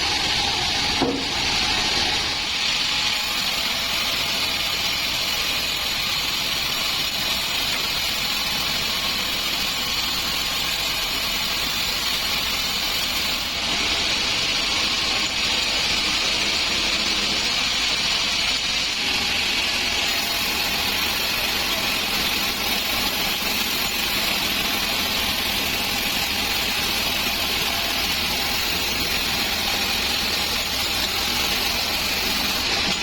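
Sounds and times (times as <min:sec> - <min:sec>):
band saw running: 0:00.0 - 0:33.0.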